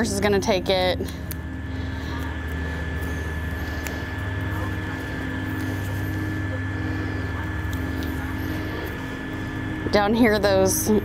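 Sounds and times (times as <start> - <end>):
electric blower fan humming: 0.0 - 11.0.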